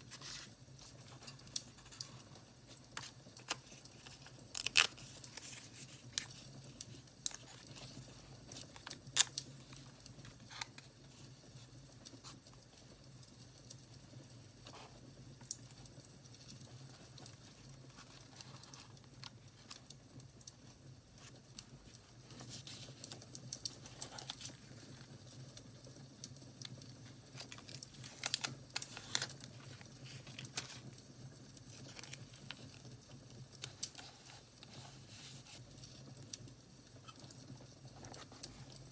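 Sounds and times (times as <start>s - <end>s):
paper crinkling and rustling: 0.0s - 25.4s, 26.6s - 38.9s
faint crackling wood fire: 0.0s - 38.9s.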